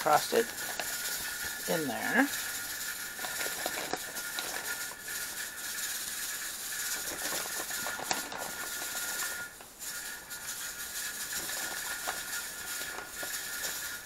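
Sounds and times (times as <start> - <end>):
chicken sizzling in frying pan: 0.0 - 14.0
pressure canner steam hiss: 0.0 - 14.0.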